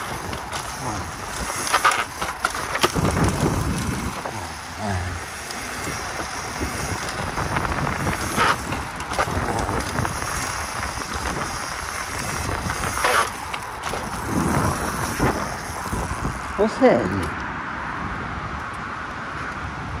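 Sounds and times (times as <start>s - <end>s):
dirt bike rattling: 0.0s - 17.4s
wind buffeting microphone: 0.0s - 18.7s.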